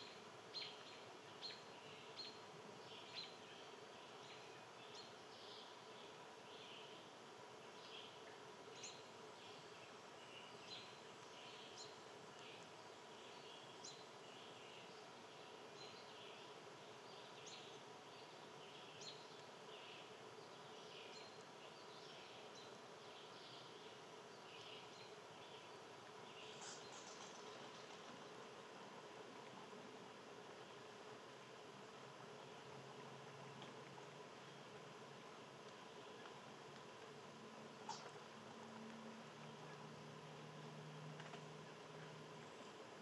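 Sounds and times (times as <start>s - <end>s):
low outdoor hum: 0.0s - 43.0s
small birds chirping: 0.0s - 43.0s.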